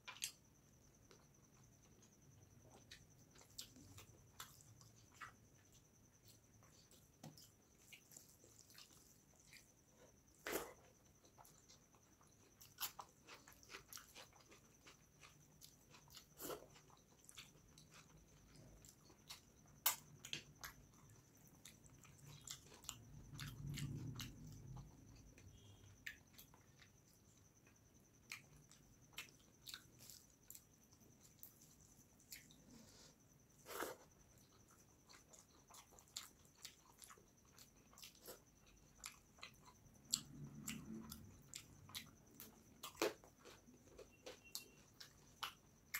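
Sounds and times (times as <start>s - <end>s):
faint high whine: 0.0s - 45.9s
person chewing food: 0.0s - 45.9s.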